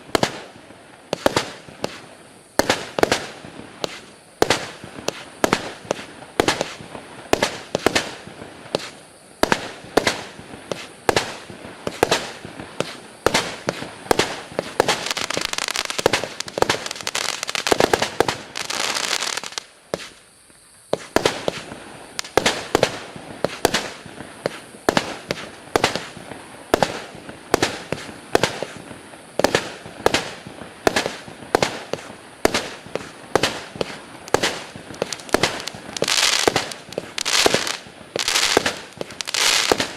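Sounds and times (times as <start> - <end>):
fireworks bangs: 0.0 - 20.2, 20.8 - 39.9
fireworks crackling: 0.0 - 39.9.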